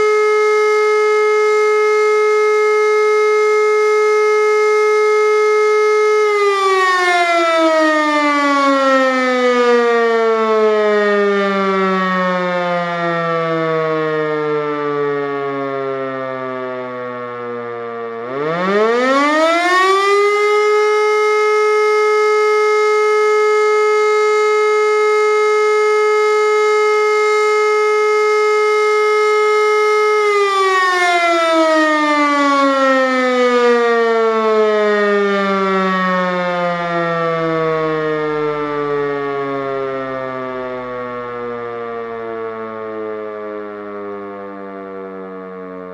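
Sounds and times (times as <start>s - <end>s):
motor siren wailing: 0.0s - 45.9s.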